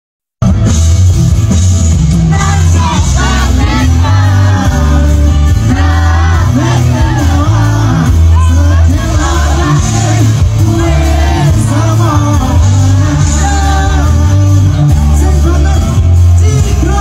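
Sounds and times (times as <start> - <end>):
heavy bass: 0.4 - 17.0
live band music: 0.4 - 17.0
person singing: 2.3 - 17.0.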